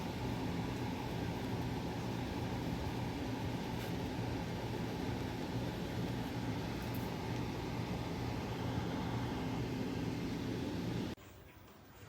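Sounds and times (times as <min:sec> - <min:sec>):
machine hum with hiss: 0:00.0 - 0:11.2.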